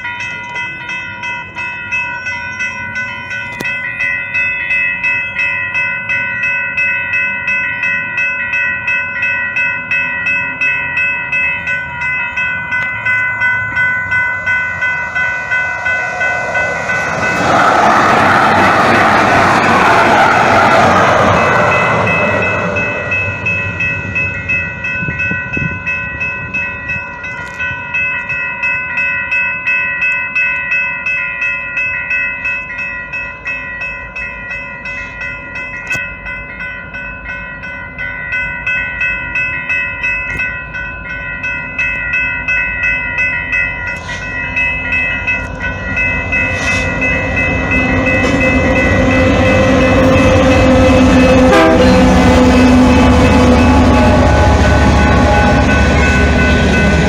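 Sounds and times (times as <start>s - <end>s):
freight train rumble: 0.0s - 57.0s
level crossing bells ringing: 0.0s - 57.0s
light rail train rumble: 0.0s - 57.0s.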